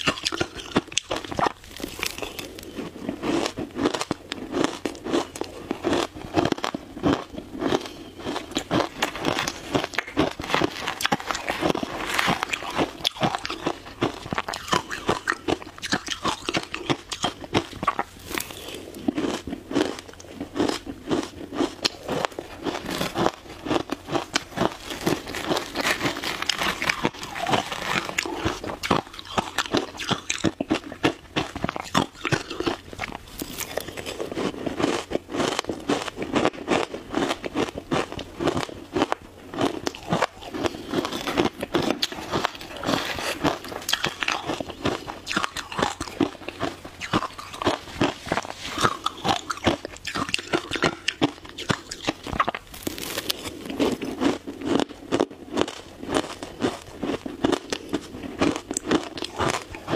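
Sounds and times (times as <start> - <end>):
person crunching shaved ice: 0.0 - 59.9.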